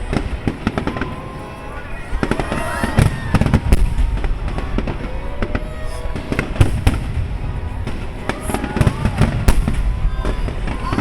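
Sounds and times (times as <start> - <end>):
fireworks bursting: 0.0 - 11.0
rumble of echoing detonations: 0.0 - 11.0.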